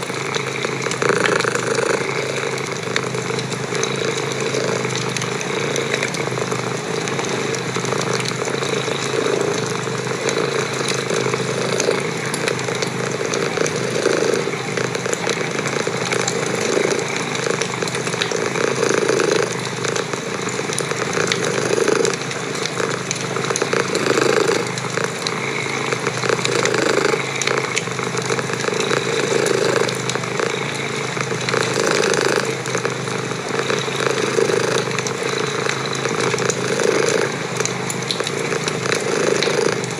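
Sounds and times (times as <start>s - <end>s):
cat purring: 0.0s - 39.9s
wood fire crackling: 0.0s - 39.9s.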